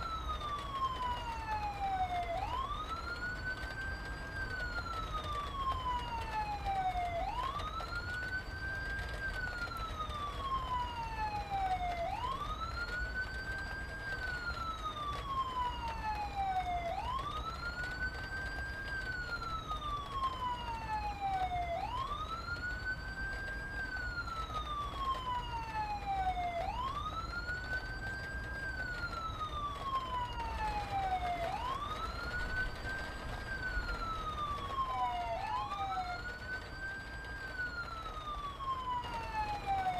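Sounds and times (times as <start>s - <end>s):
wailing siren: 0.0s - 39.9s.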